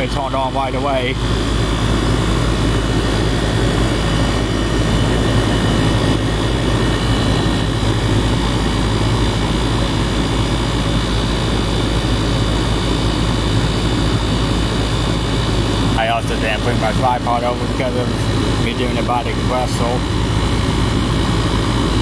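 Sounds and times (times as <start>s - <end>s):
compressor humming: 0.0s - 22.0s
condenser fan rushing: 0.0s - 22.0s.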